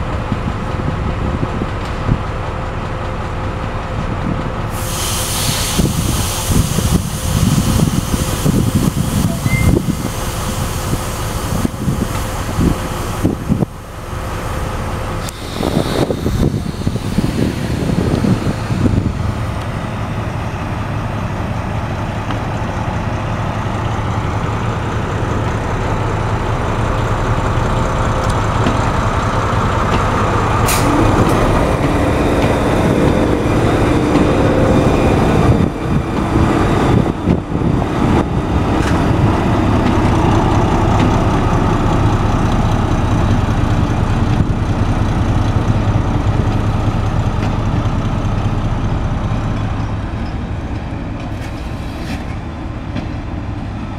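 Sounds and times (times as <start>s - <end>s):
diesel locomotive engine running: 0.0s - 53.9s.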